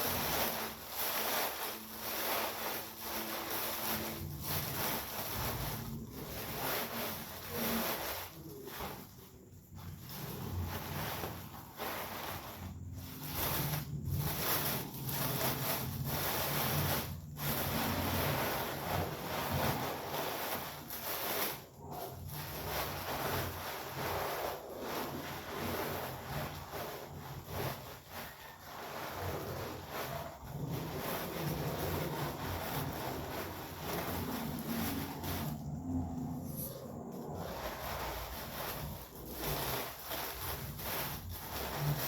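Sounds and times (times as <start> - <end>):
cellophane rustling and crinkling: 0.0 - 42.0.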